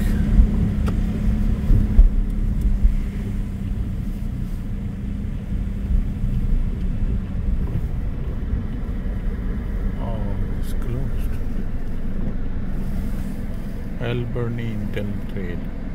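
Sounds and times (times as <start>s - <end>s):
car engine hum: 0.0s - 15.9s.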